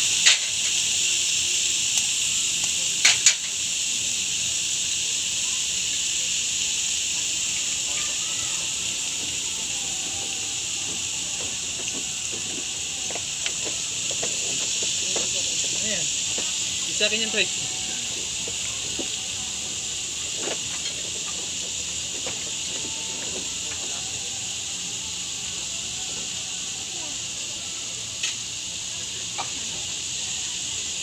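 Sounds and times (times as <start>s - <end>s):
meat sizzling on hot plate: 0.0s - 31.0s.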